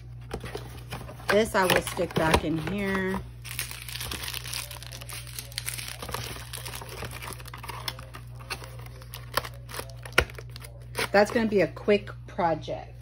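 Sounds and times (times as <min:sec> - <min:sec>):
plastic packaging crinkling: 0:00.3 - 0:11.4.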